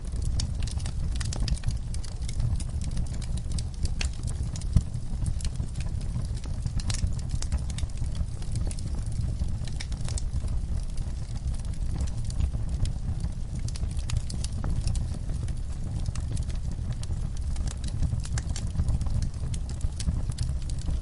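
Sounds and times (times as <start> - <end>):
fire crackling: 0.0 - 21.0
low rumble of flame: 0.0 - 21.0.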